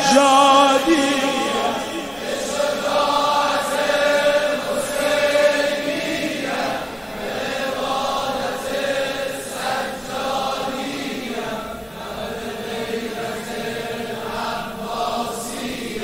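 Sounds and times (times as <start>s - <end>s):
men chanting together: 0.0s - 16.0s.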